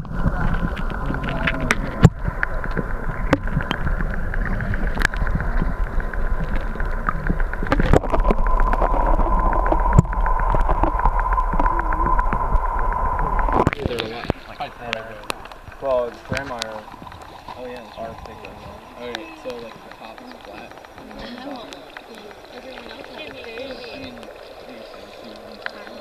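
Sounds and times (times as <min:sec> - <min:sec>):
muffled underwater rush: 0:00.0 - 0:26.0
thin steady tone: 0:00.3 - 0:26.0.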